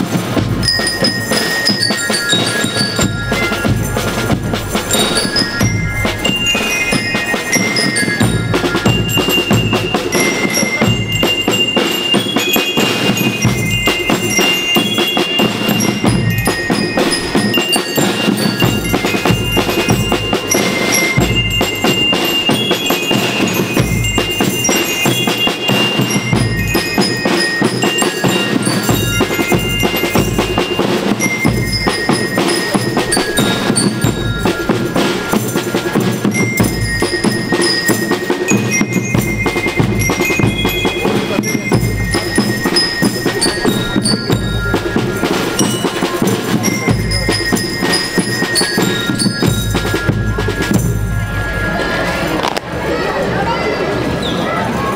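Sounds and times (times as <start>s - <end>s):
snare and bass drums marching beat: 0.0s - 51.6s
bell lyres melody: 0.0s - 54.2s.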